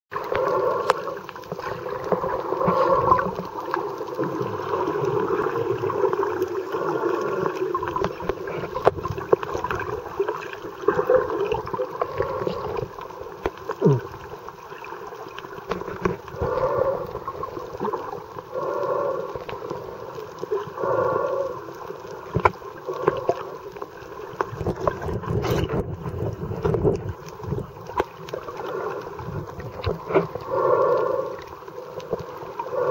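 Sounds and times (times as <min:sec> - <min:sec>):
underwater water movement and bubbles: 0:00.1 - 0:32.9.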